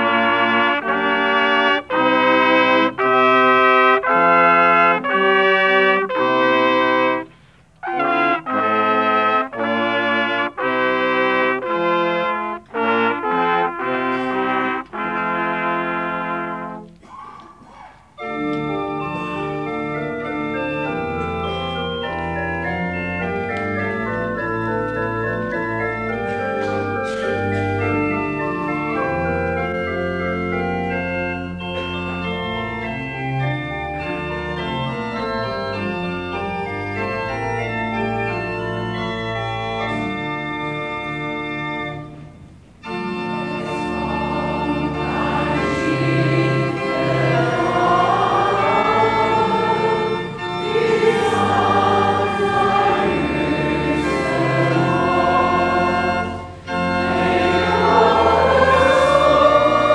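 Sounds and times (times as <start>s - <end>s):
church organ chords: 0.0s - 17.1s, 18.1s - 59.9s.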